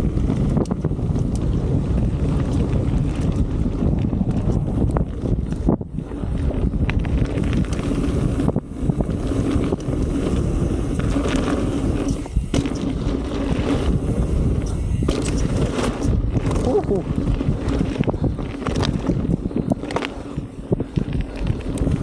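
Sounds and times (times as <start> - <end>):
bike clattering over bumps: 0.0 - 22.0
bike tyres rumbling on dirt: 0.0 - 22.0
wind buffeting microphone: 0.0 - 22.0.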